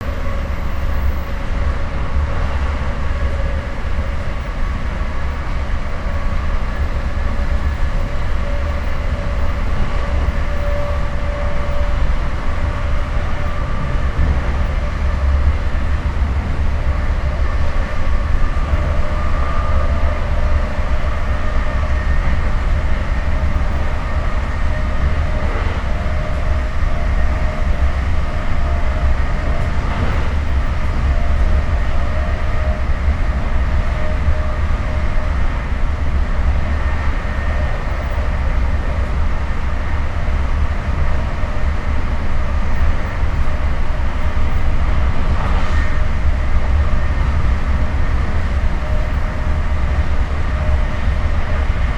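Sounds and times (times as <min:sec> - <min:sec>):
faint whining tones: 0:00.0 - 0:51.9
train wheels rumbling: 0:00.0 - 0:51.9.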